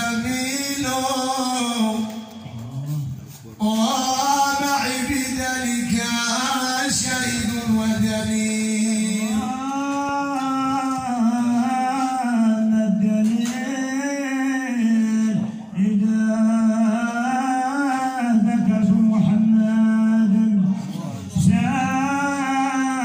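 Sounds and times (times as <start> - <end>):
man singing devotional song: 0.0 - 23.0.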